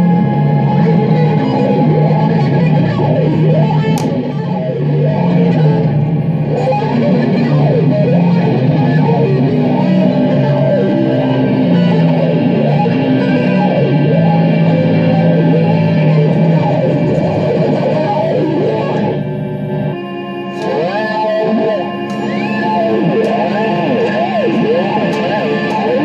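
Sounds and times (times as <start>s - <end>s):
improvised electric guitar: 0.0s - 26.0s.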